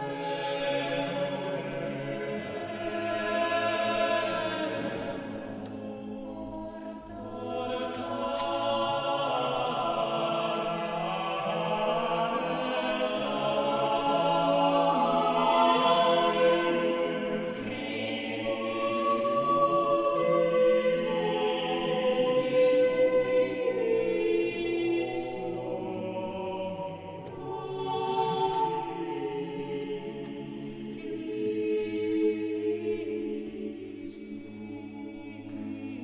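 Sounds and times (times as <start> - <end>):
slow choral music: 0.0 - 36.0.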